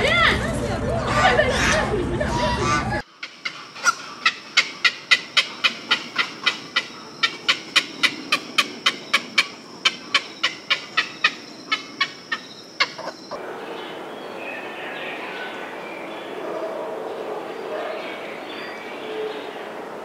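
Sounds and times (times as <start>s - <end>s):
flamingos honking: 1.0s - 19.6s.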